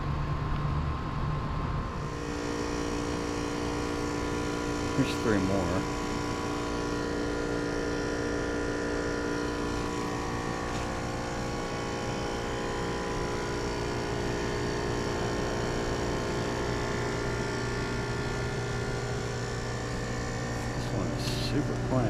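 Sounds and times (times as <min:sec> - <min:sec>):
air conditioner units humming: 0:00.0 - 0:22.0.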